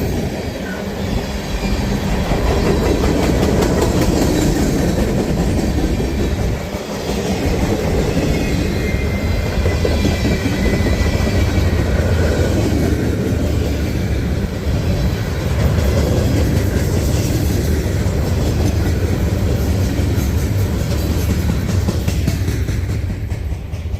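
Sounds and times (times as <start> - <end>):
freight train rolling past: 0.0 - 23.9.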